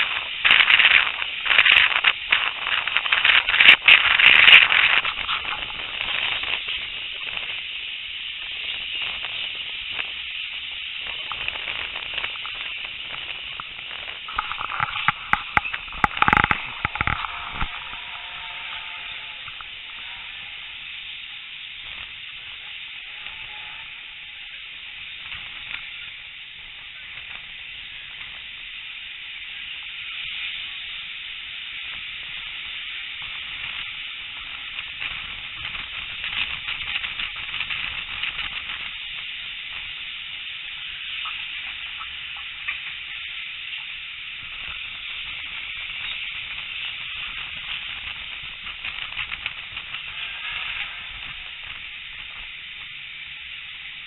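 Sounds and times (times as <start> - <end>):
train wind rush and running noise: 0.0 - 54.0.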